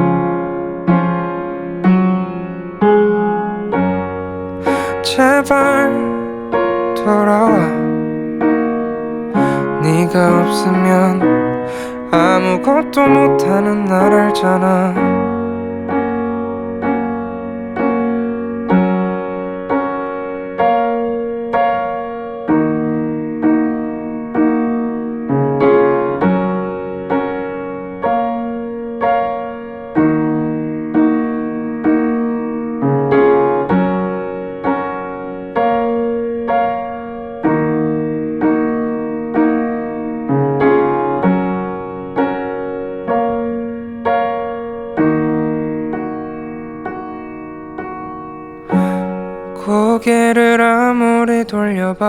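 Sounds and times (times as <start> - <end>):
soft piano chords: 0.0 - 52.0.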